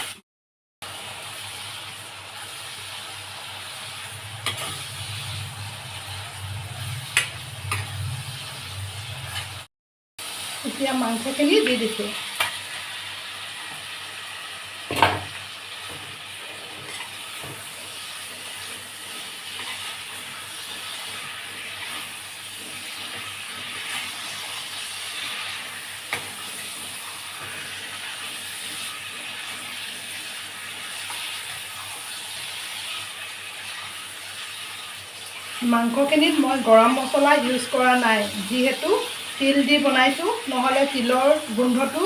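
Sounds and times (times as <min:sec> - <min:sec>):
chicken sizzling in a pan: 0:00.0 - 0:00.2, 0:00.8 - 0:42.0.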